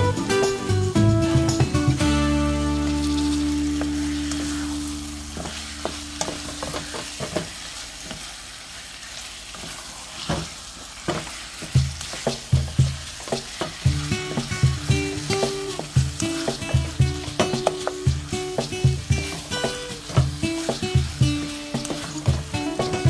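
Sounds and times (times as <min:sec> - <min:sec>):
food sizzling in a pan: 0:00.0 - 0:23.0
spatula scraping a pan: 0:02.7 - 0:08.3, 0:09.4 - 0:23.0.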